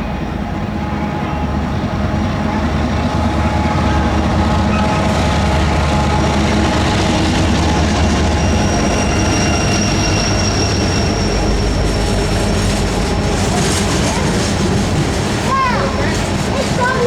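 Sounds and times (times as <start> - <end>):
train wheels rumbling on rails: 0.0 - 17.0
high wheel squeal: 2.4 - 17.0.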